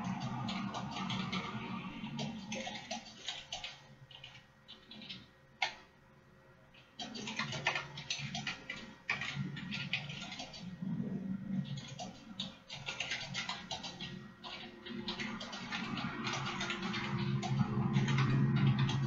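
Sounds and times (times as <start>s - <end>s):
typing on a keyboard: 0.0s - 5.8s, 6.8s - 10.8s, 11.6s - 19.0s.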